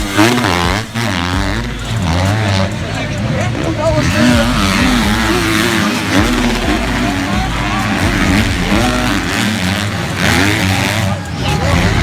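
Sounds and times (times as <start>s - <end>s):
motocross bike engines racing: 0.0s - 12.0s.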